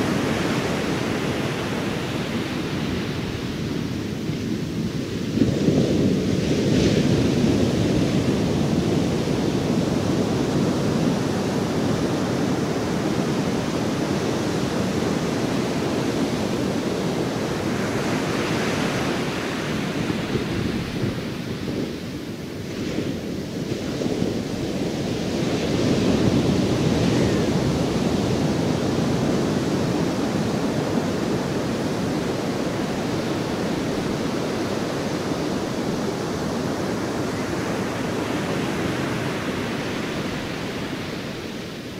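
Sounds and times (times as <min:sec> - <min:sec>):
ocean waves rushing: 0:00.0 - 0:41.9.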